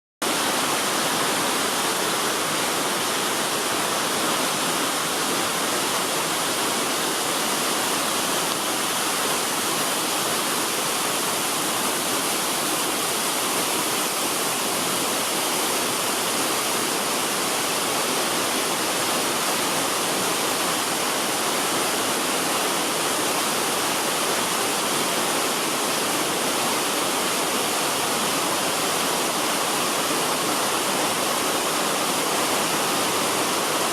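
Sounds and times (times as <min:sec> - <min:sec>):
waterfall crashing: 0:00.2 - 0:33.9.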